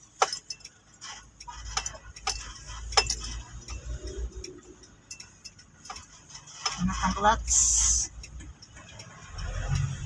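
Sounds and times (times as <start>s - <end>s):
car keys clinking: 0.0s - 10.0s.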